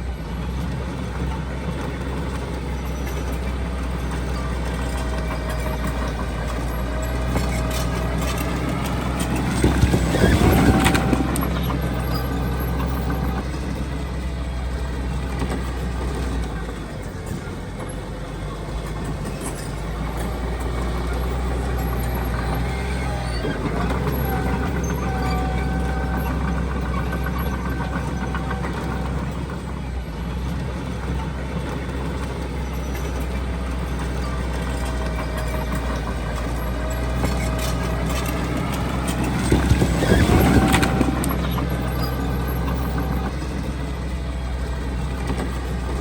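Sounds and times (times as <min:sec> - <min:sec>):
diesel machinery running: 0:00.0 - 0:46.0.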